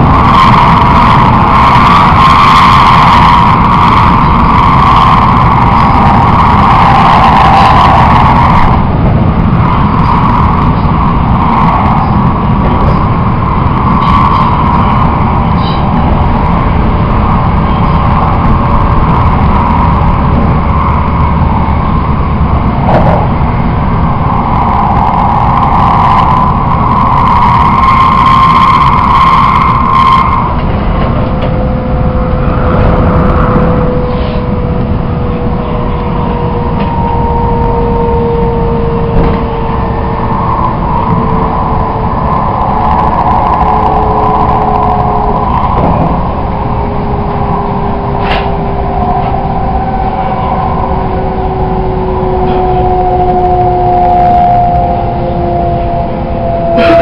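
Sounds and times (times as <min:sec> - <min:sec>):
thin whine falling in pitch: 0:00.0 - 0:57.0
train running rumble: 0:00.0 - 0:57.0.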